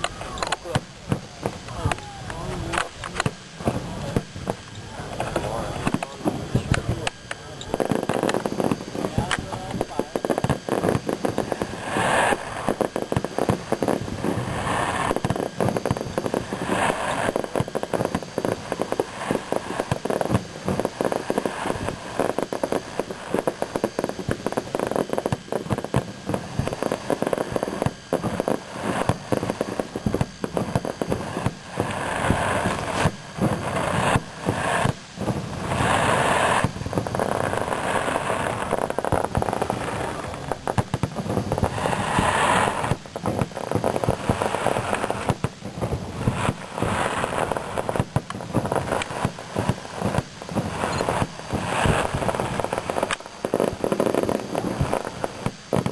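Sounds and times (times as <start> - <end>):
fireworks bursts: 0.0 - 55.9
fireworks crackling: 0.0 - 55.9.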